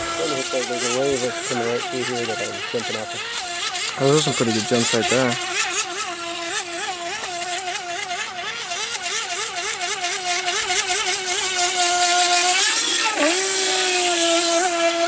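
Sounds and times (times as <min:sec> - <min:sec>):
model boat motor whining: 0:00.0 - 0:15.0.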